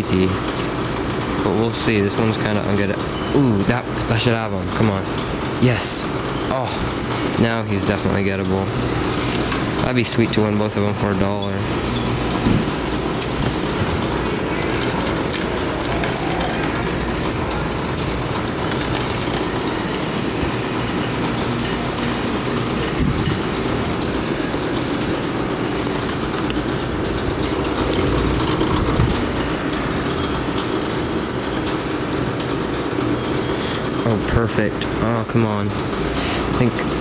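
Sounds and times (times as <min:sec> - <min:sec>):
arcade game machines din: 0:00.0 - 0:37.0.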